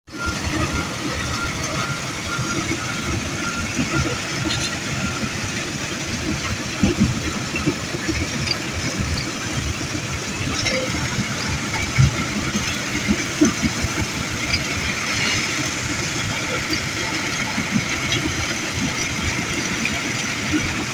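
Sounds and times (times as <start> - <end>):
diesel truck engines idling: 0.1 - 20.9.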